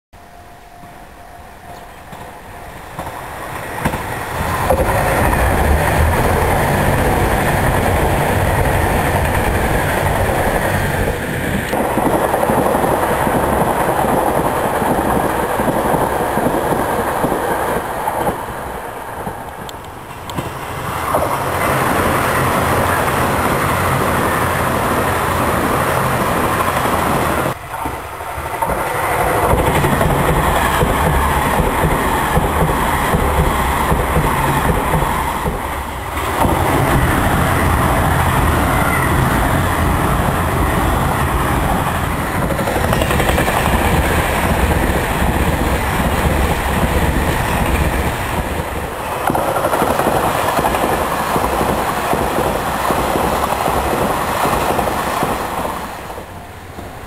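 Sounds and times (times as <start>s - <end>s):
train wheels rumbling and clattering: 1.6s - 57.0s.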